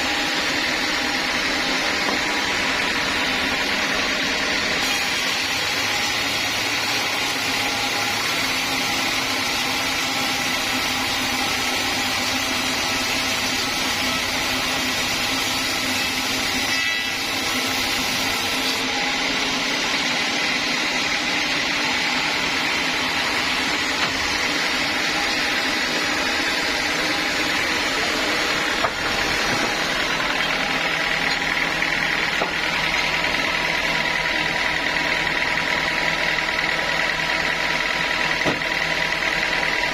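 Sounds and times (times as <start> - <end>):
log saw running: 0.0 - 39.9.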